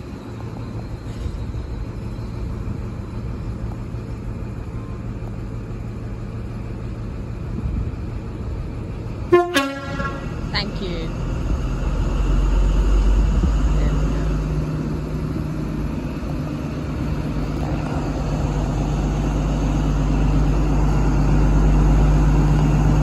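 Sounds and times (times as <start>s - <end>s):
train diesel engine drone: 0.0s - 23.0s.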